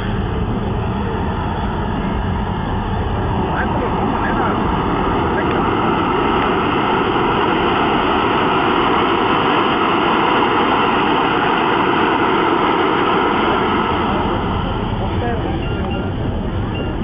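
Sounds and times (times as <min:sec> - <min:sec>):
model jet turbine engines running: 0:00.0 - 0:17.0.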